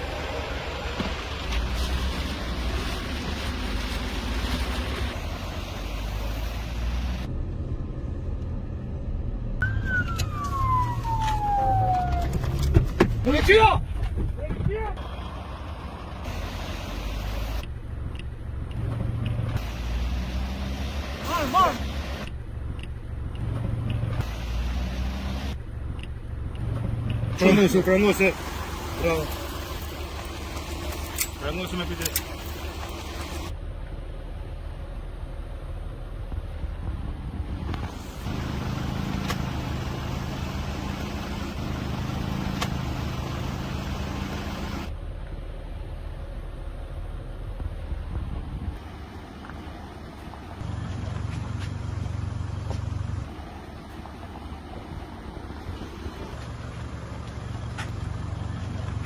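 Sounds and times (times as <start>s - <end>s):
road noise: 0.0s - 59.0s
vehicle engine rumble: 0.0s - 59.0s.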